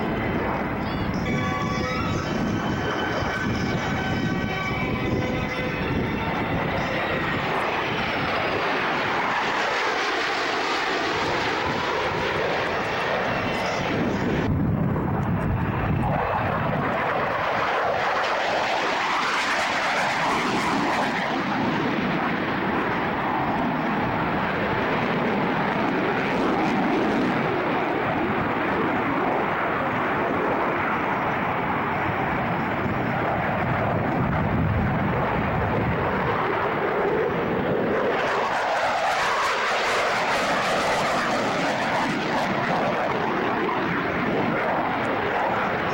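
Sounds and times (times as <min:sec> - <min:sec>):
airplane engine rumble: 0:00.0 - 0:45.9.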